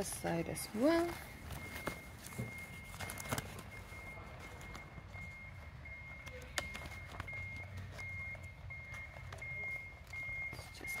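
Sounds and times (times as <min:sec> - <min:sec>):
reversing alarm beeps: 0:00.0 - 0:11.0.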